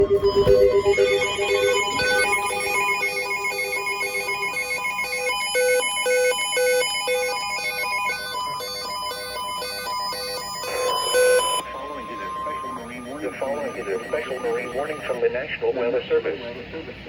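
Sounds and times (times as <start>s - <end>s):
electronic alert beeps: 0.0s - 15.2s
high warbling tone: 0.0s - 15.2s.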